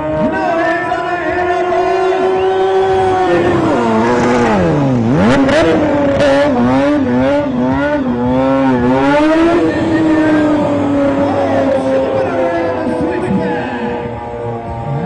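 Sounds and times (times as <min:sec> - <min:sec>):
motorcycle engine revving: 0:01.7 - 0:15.0.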